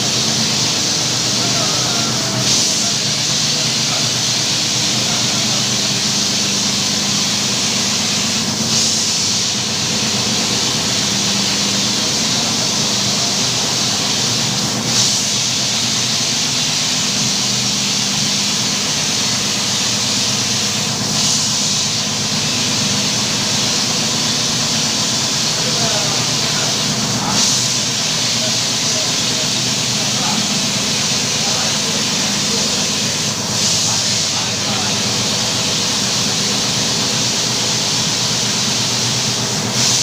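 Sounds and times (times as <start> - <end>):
carpet-washing machine hissing: 0.0 - 40.0.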